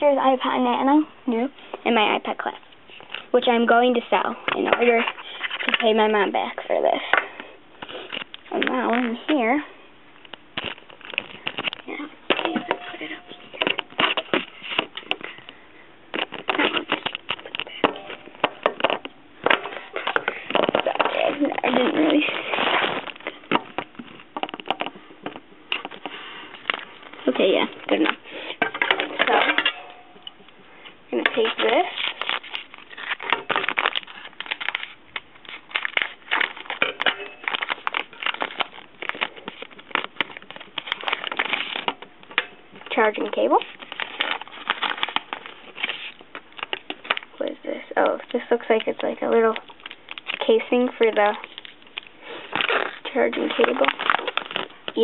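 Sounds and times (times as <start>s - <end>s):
box and plastic packaging rustling: 1.6s - 55.0s.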